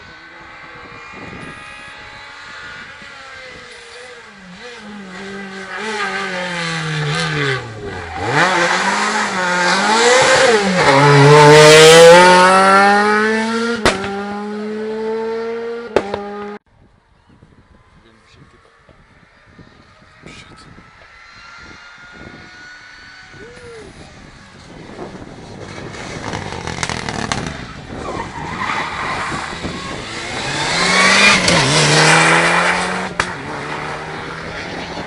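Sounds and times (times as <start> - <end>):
rally car engine passing: 0.0 - 16.6, 18.7 - 35.0.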